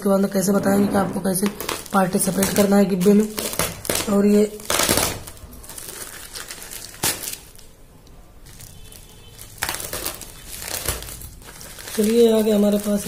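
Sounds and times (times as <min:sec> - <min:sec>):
plastic mailer bag crinkling: 0:01.3 - 0:07.8, 0:08.4 - 0:13.0.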